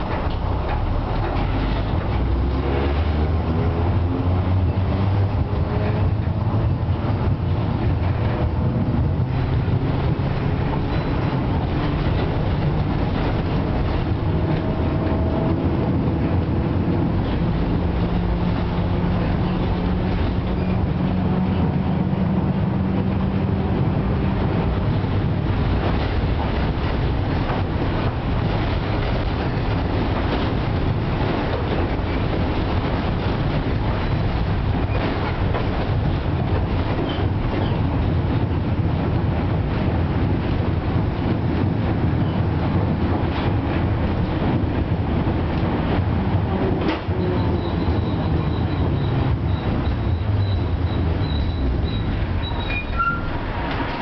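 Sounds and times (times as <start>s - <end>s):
tram wheels rumbling on track: 0.0s - 54.0s.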